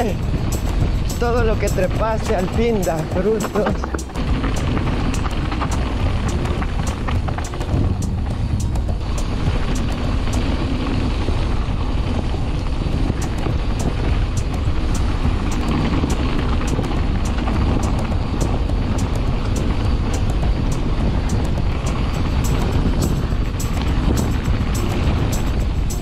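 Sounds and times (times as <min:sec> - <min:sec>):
bike clicking and rattling over stones: 0:00.0 - 0:26.0
rumble of bike tyres and wind: 0:00.0 - 0:26.0.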